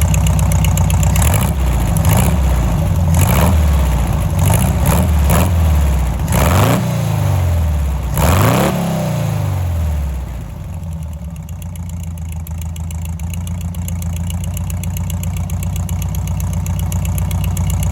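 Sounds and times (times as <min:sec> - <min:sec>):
buggy engine revving and idling: 0:00.0 - 0:17.9.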